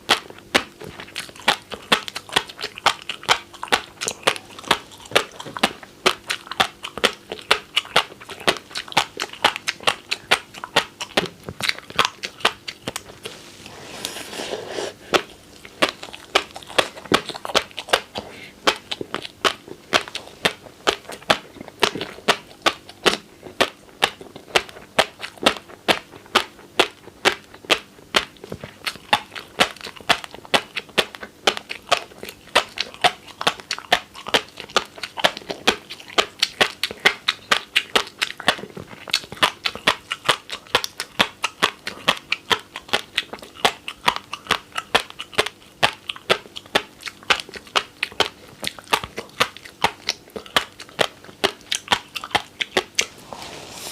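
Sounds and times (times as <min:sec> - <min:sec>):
fish roe popping while chewed: 0:00.0 - 0:13.3, 0:15.1 - 0:53.1.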